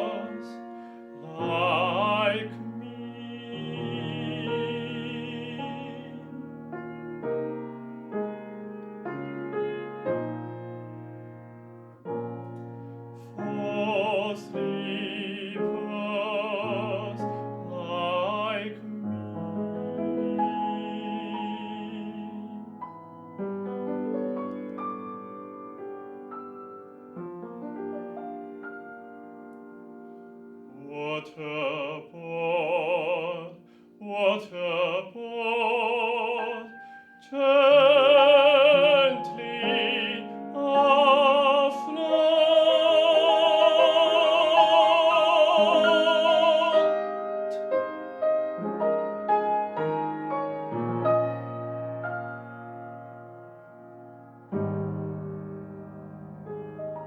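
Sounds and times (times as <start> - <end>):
classical singer: 0.0 - 57.0
piano chords: 0.0 - 57.0.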